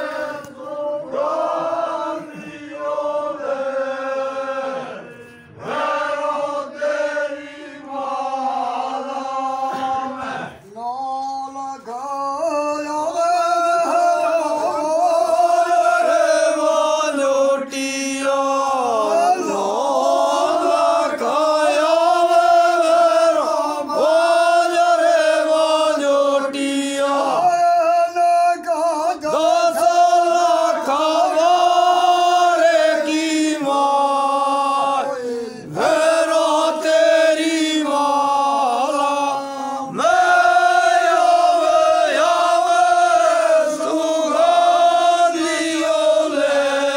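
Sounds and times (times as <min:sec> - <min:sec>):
men singing a chant: 0:00.0 - 0:46.9.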